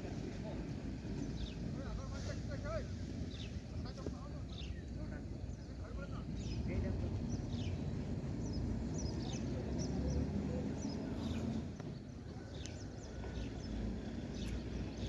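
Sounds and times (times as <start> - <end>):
birds chirping: 0.4 - 2.3, 3.2 - 15.0.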